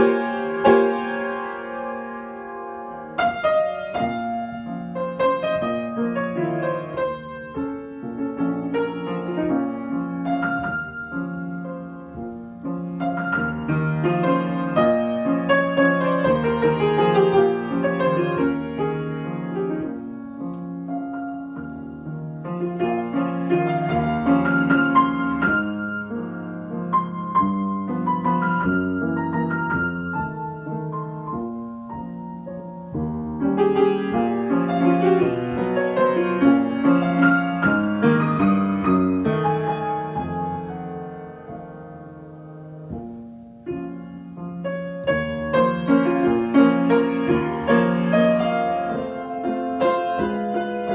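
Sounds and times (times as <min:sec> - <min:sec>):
solo piano: 0:00.0 - 0:50.9.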